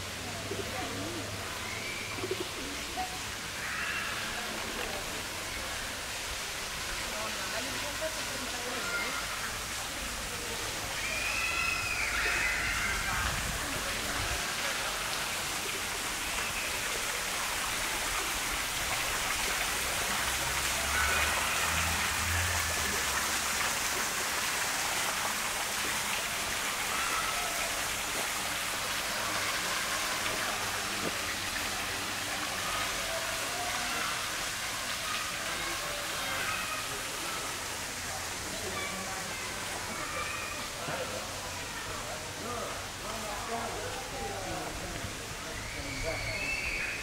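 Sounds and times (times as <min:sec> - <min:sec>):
faint distant voices: 0:00.0 - 0:47.0
fountain water splashing: 0:00.0 - 0:47.0.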